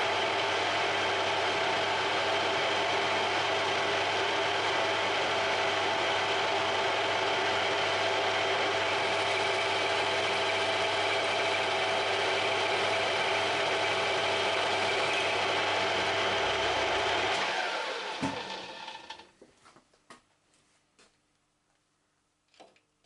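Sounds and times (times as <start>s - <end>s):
machine tool running: 0.0s - 19.2s
machine winding down: 0.1s - 19.3s.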